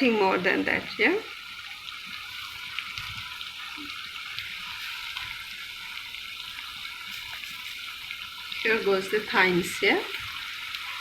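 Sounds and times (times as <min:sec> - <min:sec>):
nuts sizzling in oil: 0:00.0 - 0:11.0.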